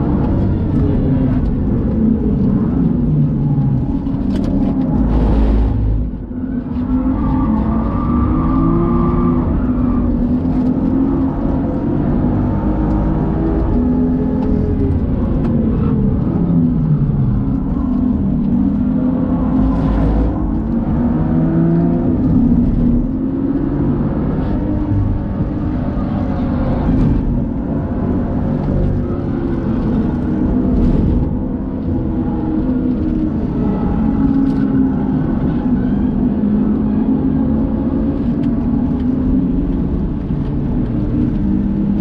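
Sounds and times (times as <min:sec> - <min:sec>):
car engine at full throttle: 0:00.0 - 0:42.0.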